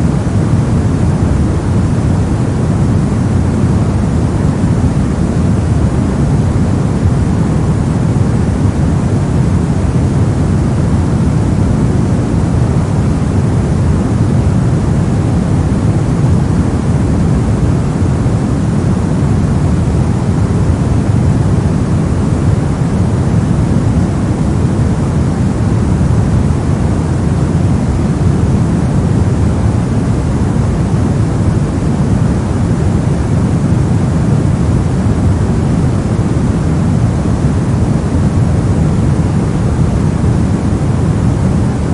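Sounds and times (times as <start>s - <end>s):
white noise hiss: 0.0s - 41.9s.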